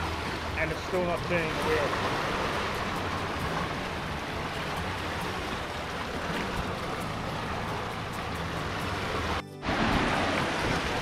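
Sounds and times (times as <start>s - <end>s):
water rushing around boat: 0.0s - 11.0s.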